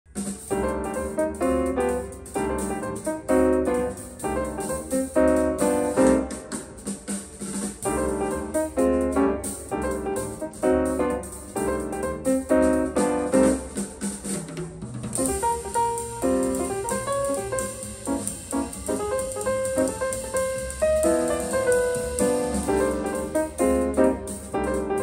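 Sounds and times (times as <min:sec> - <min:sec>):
piano chords: 0:00.1 - 0:25.0.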